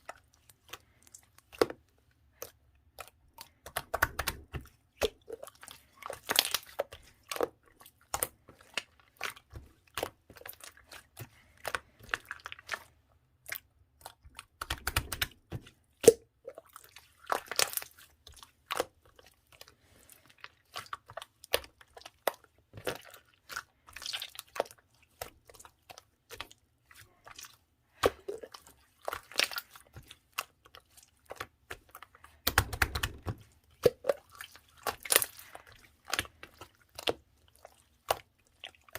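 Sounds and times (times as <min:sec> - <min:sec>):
slime squishes: 0:00.0 - 0:38.9.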